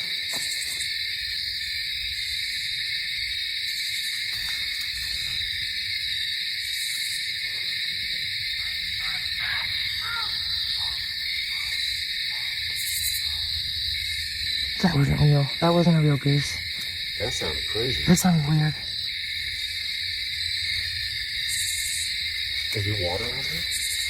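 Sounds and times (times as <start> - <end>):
insect chorus buzzing: 0.0 - 24.0.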